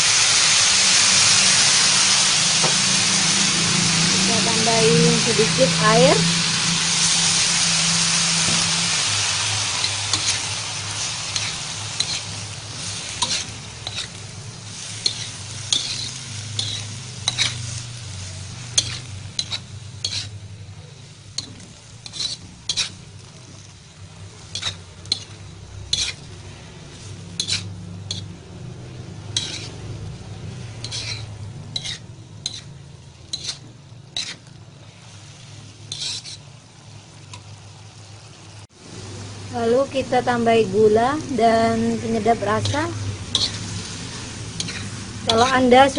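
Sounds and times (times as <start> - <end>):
pan sizzling: 0.0 - 45.9
spatula scraping a wok: 1.0 - 37.5, 41.8 - 45.9.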